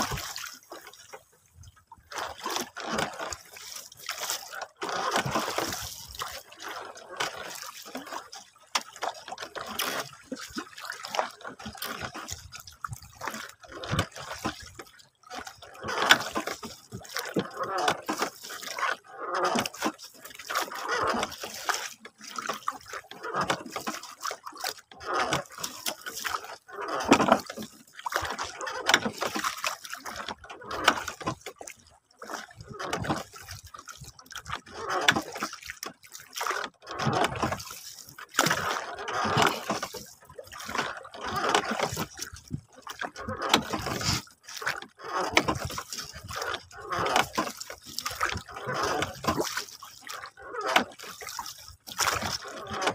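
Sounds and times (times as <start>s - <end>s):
water lapping against wooden boat: 0.0s - 52.9s.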